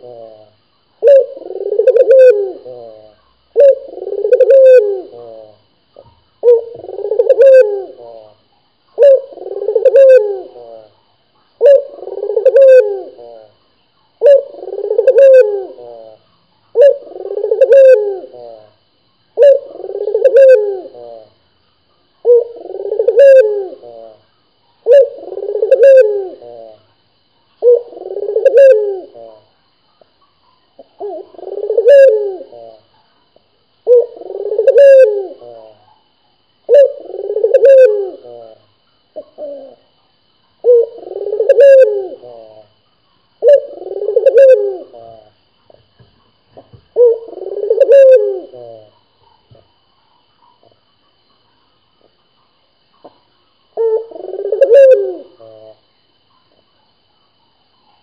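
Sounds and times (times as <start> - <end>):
dove cooing: 0.0 - 11.0, 11.6 - 13.6, 14.2 - 21.4, 22.1 - 26.9, 27.6 - 29.5, 30.4 - 33.1, 33.8 - 36.0, 36.6 - 42.8, 43.4 - 45.4, 46.6 - 50.7, 53.0 - 56.5.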